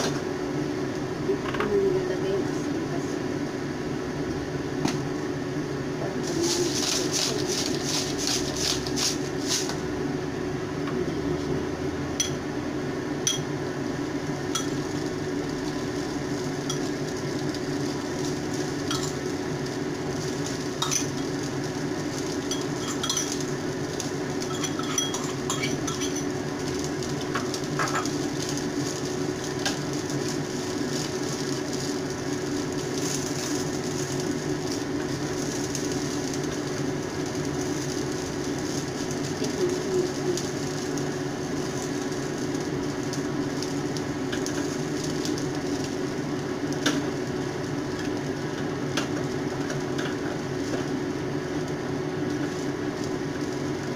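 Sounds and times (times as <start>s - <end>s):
frying sizzle: 0.0s - 53.9s.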